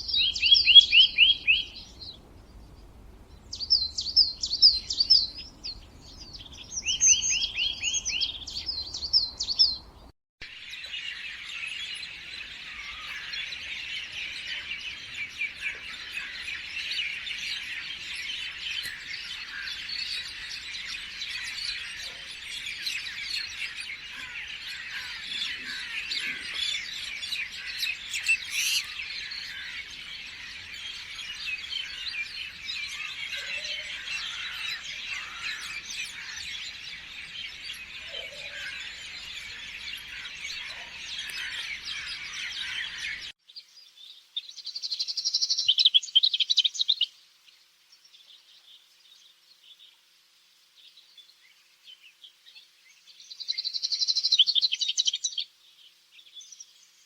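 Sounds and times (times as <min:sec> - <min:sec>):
bird singing chirping phrases: 0:00.0 - 0:02.6, 0:03.3 - 0:50.0, 0:50.8 - 0:57.0
chorus of birds chirping: 0:00.0 - 0:50.0, 0:50.8 - 0:57.0.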